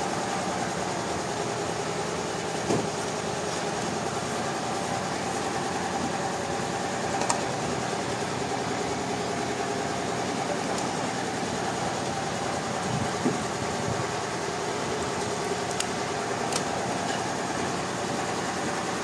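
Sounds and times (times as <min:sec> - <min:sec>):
sawmill machinery humming: 0:00.0 - 0:19.0.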